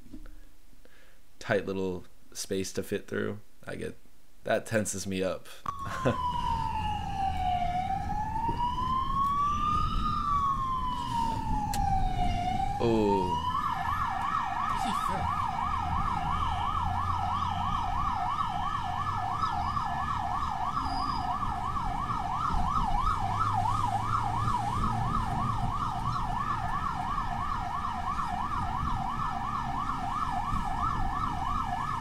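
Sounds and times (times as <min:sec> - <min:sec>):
road and engine rumble: 0:05.7 - 0:32.0
siren yelping: 0:05.7 - 0:32.0.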